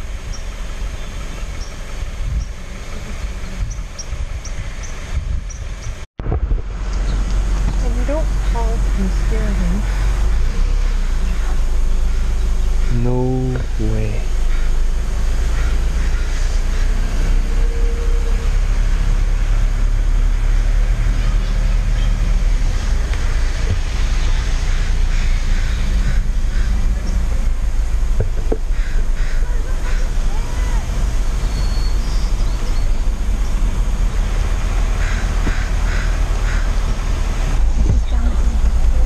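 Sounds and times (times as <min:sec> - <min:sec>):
car engine rumbling: 0:00.0 - 0:39.0
wind and road noise: 0:00.0 - 0:39.0.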